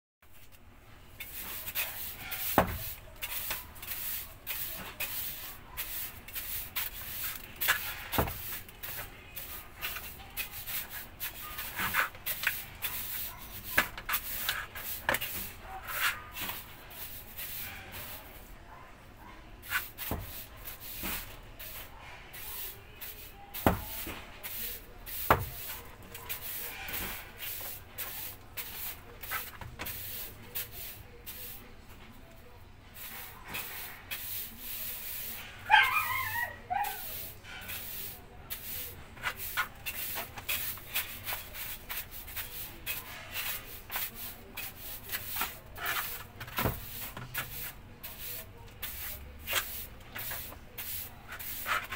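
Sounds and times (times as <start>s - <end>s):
broom sweeping a hard floor: 0.2s - 18.6s, 19.5s - 51.9s.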